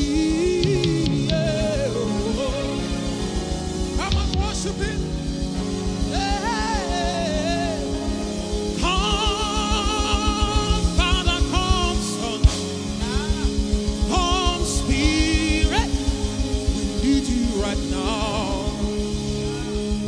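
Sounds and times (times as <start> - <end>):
person singing: 0.0 - 5.2, 6.1 - 20.0
gospel band music: 0.0 - 20.0.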